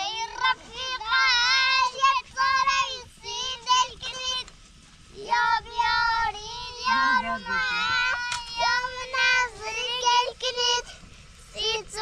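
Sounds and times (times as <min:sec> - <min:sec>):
child singing: 0:00.0 - 0:04.5, 0:05.1 - 0:12.0.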